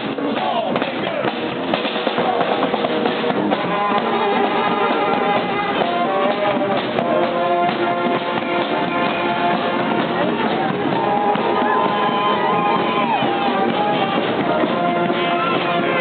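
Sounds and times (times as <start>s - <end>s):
brass band playing: 0.0s - 16.0s
held brass notes: 0.0s - 16.0s.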